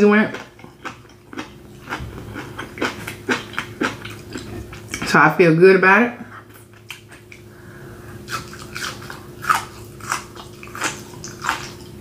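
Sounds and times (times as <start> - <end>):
person chewing: 0.1 - 5.1, 6.4 - 7.5, 8.1 - 12.0.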